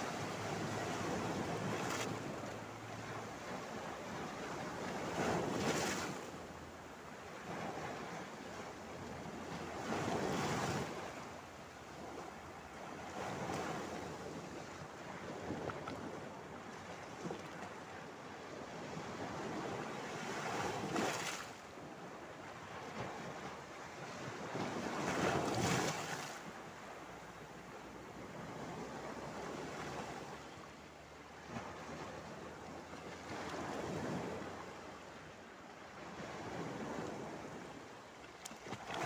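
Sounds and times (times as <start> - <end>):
surf wash: 0.0 - 39.0.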